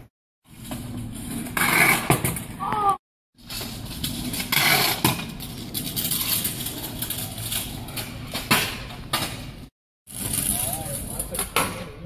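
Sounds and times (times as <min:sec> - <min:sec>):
scooter wheels rolling on concrete: 0:00.5 - 0:12.0.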